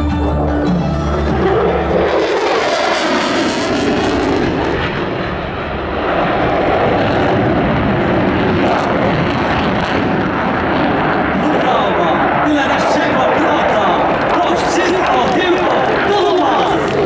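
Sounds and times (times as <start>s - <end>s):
fighter jet flying past: 0.3s - 17.0s.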